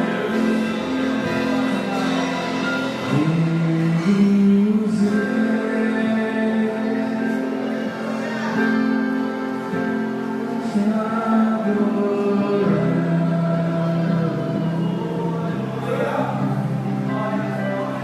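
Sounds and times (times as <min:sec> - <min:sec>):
gospel singing with instruments: 0:00.0 - 0:18.0.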